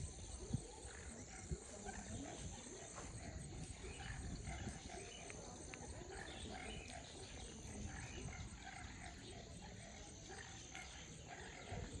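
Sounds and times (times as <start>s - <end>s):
faint distant sounds: 0.0s - 12.0s
wind rumbling on microphone: 0.0s - 12.0s.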